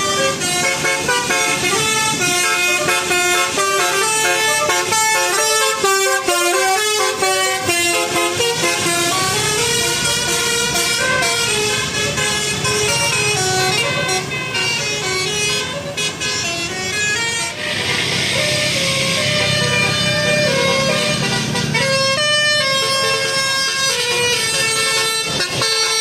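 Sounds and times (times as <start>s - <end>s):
rushing noise: 0.0s - 14.4s, 15.8s - 22.7s
multi-tone air horn melody: 0.0s - 26.0s.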